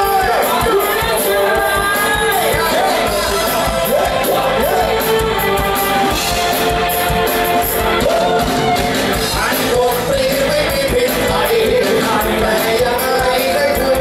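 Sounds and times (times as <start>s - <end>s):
person singing: 0.0s - 5.6s, 7.6s - 14.0s
live band music: 0.0s - 14.0s.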